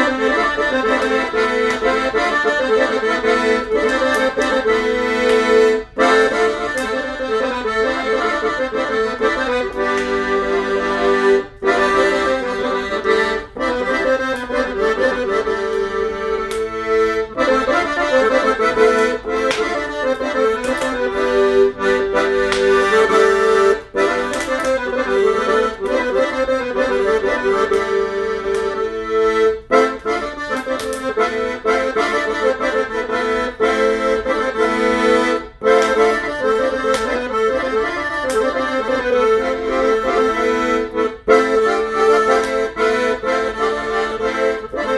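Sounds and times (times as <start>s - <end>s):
accordion playing folk tune: 0.0s - 44.9s.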